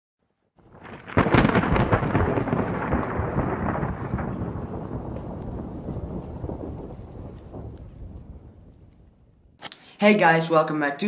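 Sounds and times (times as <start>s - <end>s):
thunder rumbling and crackling: 0.6s - 9.6s.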